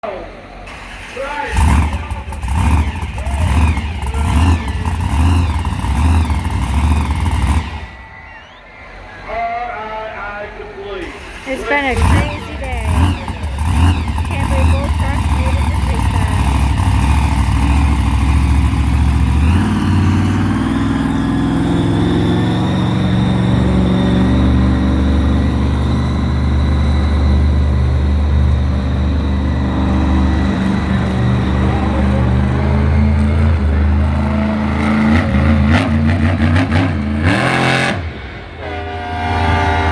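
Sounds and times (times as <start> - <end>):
truck engine revving hard: 0.3 - 8.1, 11.1 - 39.9.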